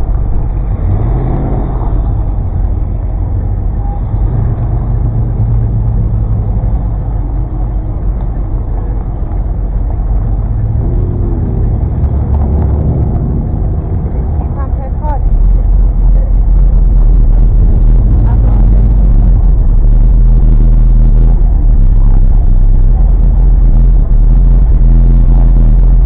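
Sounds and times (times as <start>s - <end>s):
car engine low drone: 0.0s - 26.0s.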